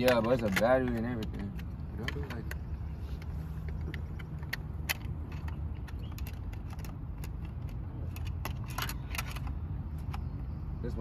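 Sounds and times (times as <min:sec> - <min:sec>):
plastic clicks and rattles: 0:00.0 - 0:10.4.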